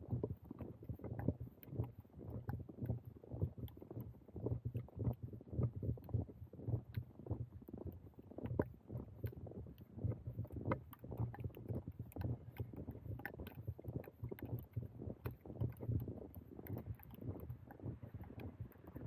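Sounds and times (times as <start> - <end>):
faint ticks: 0.0 - 19.0.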